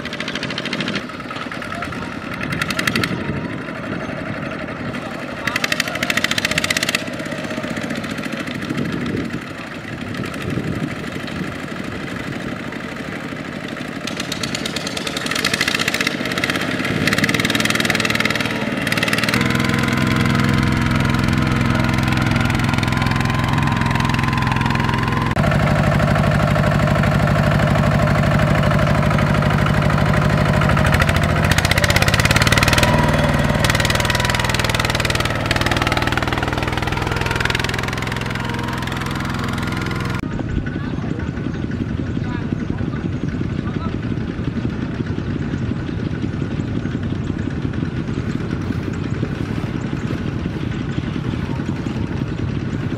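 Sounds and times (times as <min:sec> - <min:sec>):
diesel tractor engine running: 0:00.0 - 0:52.9.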